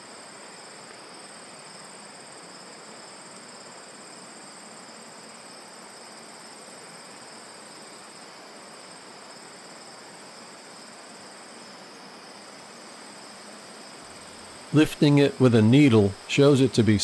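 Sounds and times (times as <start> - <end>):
faint hiss: 0.0 - 17.0
insect trills: 0.0 - 17.0.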